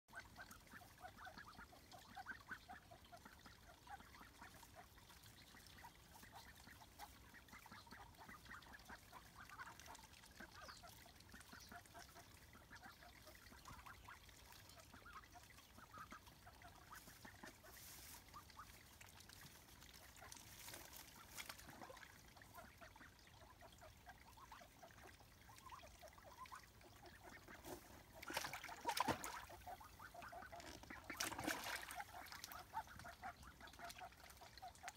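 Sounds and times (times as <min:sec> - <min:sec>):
ducklings giving soft short calls: 0:00.1 - 0:34.9.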